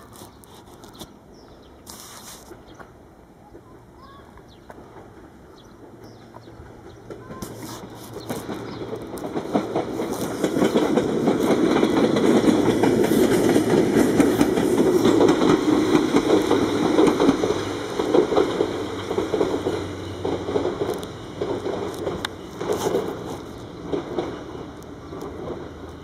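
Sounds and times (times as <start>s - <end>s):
train wheels clattering: 4.7s - 26.0s.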